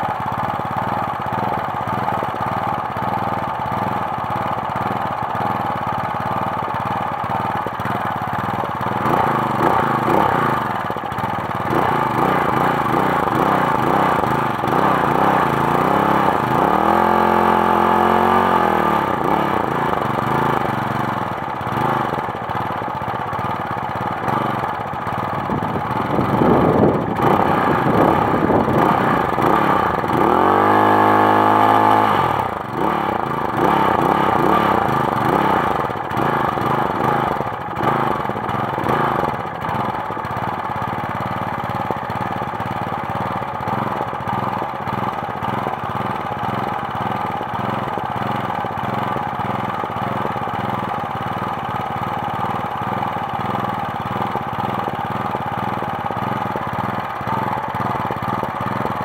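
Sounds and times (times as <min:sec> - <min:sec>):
mower engine revving: 0:00.0 - 0:59.0.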